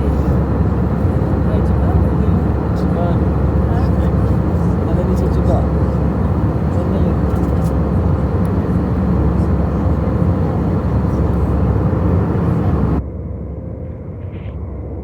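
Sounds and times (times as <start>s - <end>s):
airliner cabin engine noise: 0.0s - 15.0s.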